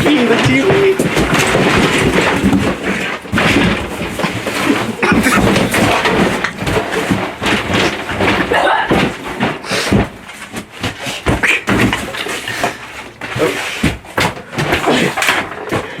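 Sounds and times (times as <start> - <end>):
household objects rattling: 0.0 - 16.0
sharp knocks and bangs: 0.0 - 16.0.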